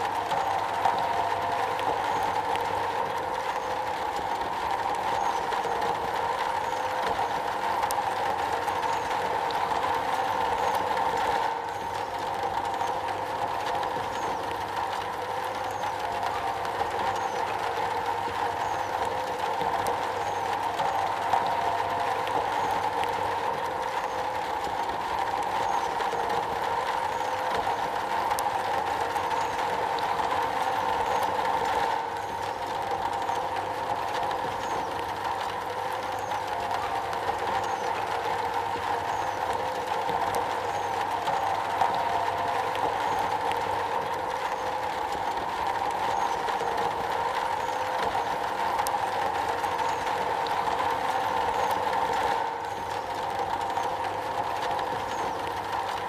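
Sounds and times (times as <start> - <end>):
rain drumming on a metal roof: 0.0 - 56.0.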